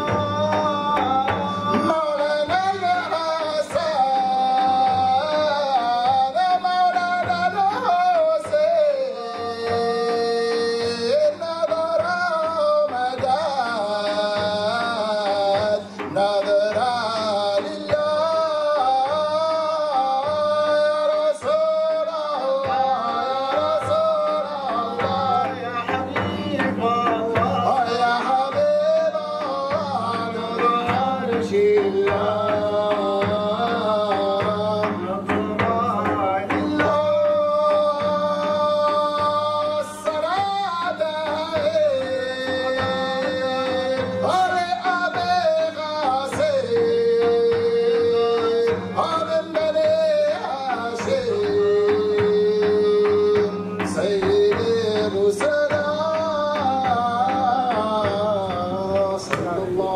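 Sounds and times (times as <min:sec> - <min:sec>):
frame drum beating: 0:00.0 - 0:59.9
man singing: 0:00.0 - 0:59.9.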